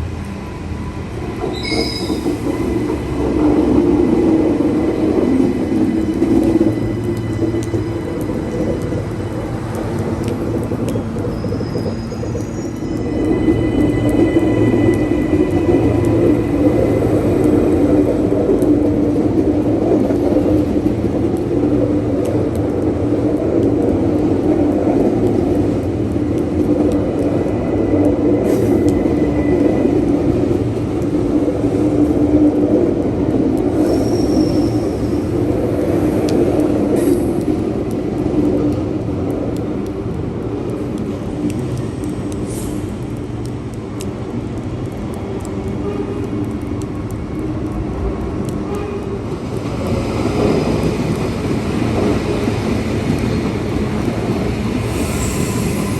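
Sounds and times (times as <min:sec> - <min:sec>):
train rumbling past: 0:00.0 - 0:55.9.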